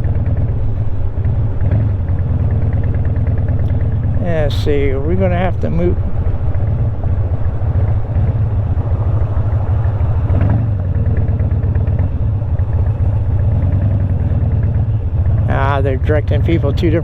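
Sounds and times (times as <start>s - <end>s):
motorcycle engine deep rumble: 0.0s - 17.0s.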